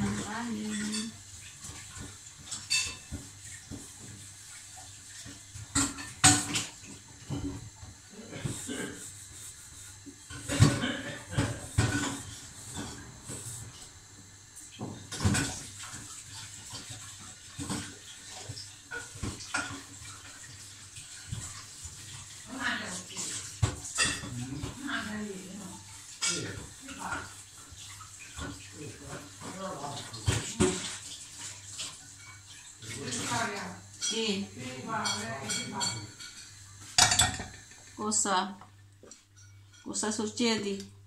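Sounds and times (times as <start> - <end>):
kitchenware clattering: 0.0 - 9.5, 10.2 - 13.9, 14.8 - 38.1, 39.1 - 40.3
faint steady hiss: 0.0 - 41.0.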